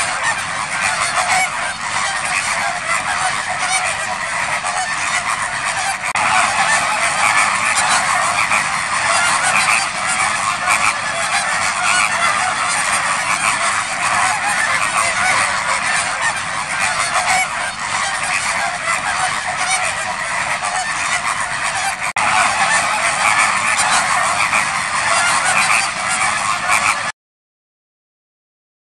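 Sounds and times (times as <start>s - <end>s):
flock of flamingos honking: 0.0s - 27.1s.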